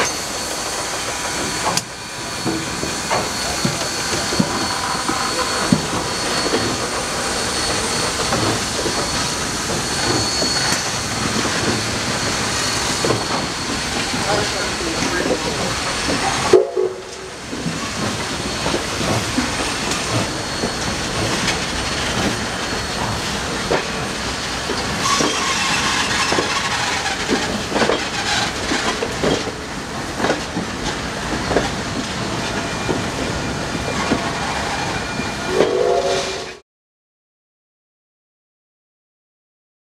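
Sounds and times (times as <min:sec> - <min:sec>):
wheel squeal: 0:00.0 - 0:16.4, 0:17.6 - 0:24.0, 0:24.7 - 0:29.5, 0:31.4 - 0:36.6
train wheels clicking over rail joints: 0:00.0 - 0:35.0.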